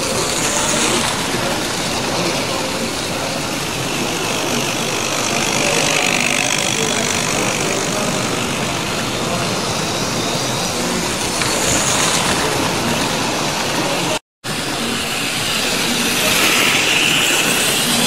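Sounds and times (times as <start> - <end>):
model trains whirring on rails: 0.0 - 18.0
murmur of voices: 0.0 - 18.0.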